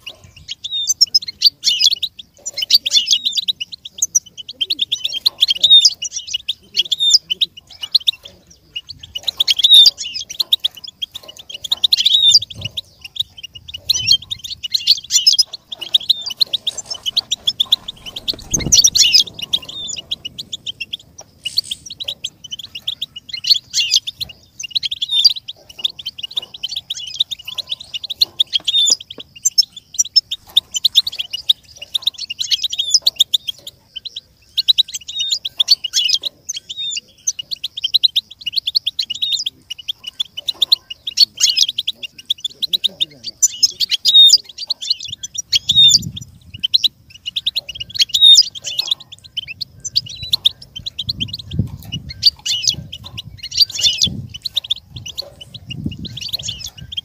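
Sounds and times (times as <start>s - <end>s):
goldfinch twittering: 0.0s - 57.0s.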